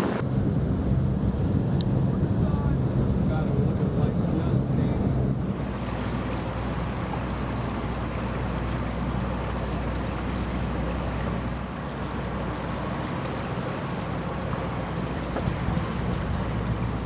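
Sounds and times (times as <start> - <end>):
motorboat engine drone: 0.0 - 17.0
rushing wind and water: 0.0 - 17.0.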